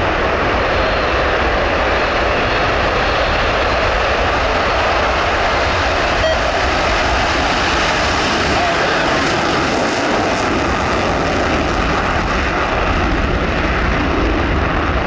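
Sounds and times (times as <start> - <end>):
loud jet engine noise: 0.0 - 15.0.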